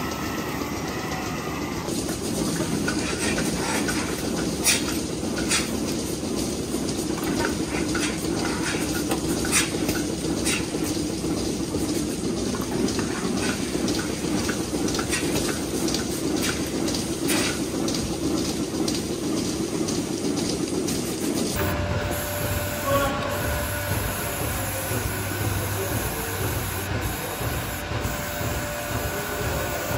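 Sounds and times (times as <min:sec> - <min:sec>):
milking machinery drone: 0:00.0 - 0:29.9.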